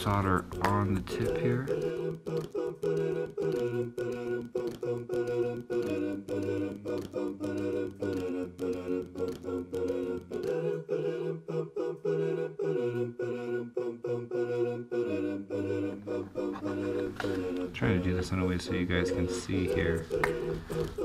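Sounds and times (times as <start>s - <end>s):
background music with steady beat: 0.0s - 21.0s.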